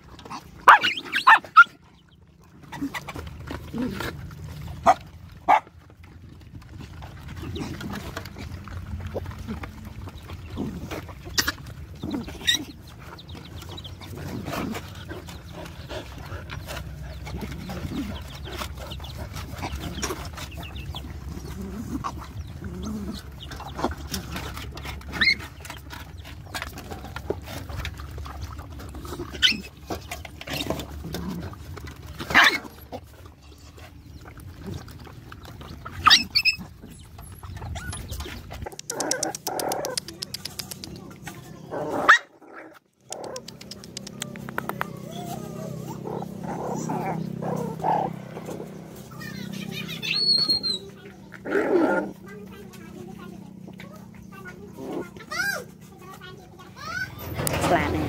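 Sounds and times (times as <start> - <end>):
dogs eating from metal bowl: 0.0 - 58.0.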